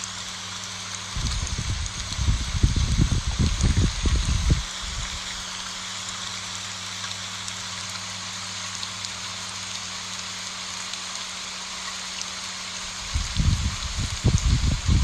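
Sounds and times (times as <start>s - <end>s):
rain on leaves: 0.0s - 15.0s.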